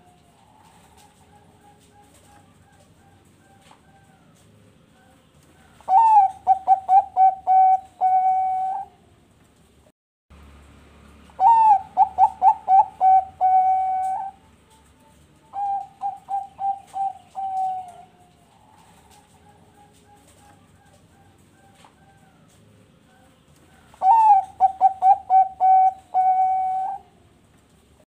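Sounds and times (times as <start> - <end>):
dove cooing: 0.0 - 9.1, 11.3 - 27.3.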